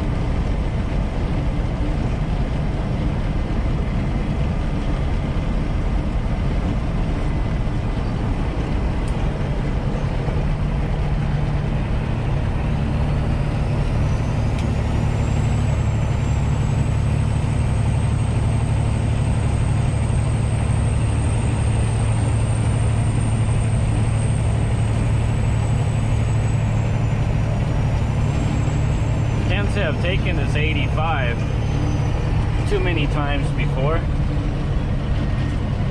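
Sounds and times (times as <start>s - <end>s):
road noise: 0.0s - 35.9s
truck diesel engine drone: 0.0s - 35.9s.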